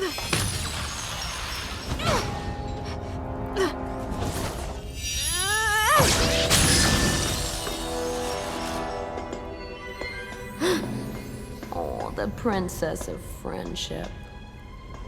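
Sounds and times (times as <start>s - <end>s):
dramatic orchestral film music: 0.0s - 15.0s.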